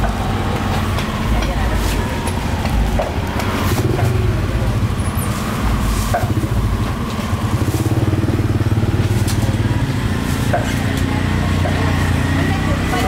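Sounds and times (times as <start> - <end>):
engine puttering: 0.0 - 13.0
street noise: 0.0 - 13.0.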